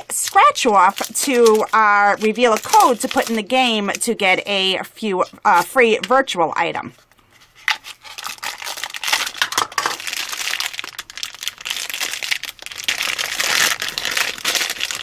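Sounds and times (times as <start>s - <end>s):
plastic bag crinkling: 0.0s - 4.7s, 7.4s - 15.0s.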